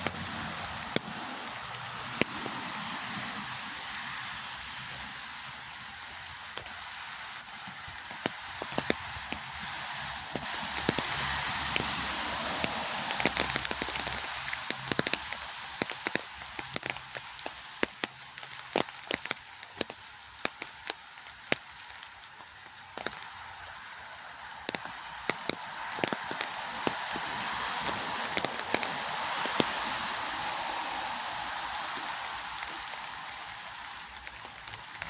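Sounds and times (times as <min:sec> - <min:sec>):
raindrops ticking: 0:00.0 - 0:35.0
steady hiss of rain: 0:00.0 - 0:35.0.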